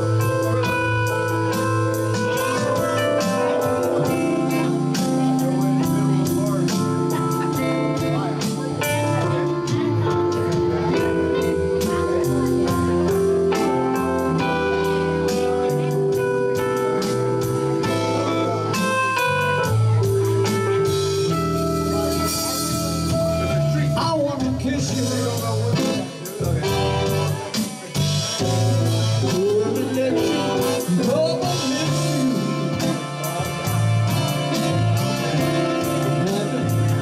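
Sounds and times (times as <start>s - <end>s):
electric guitar: 0.0s - 37.0s
live rock band playing: 0.0s - 37.0s
steady drum beat: 0.0s - 37.0s.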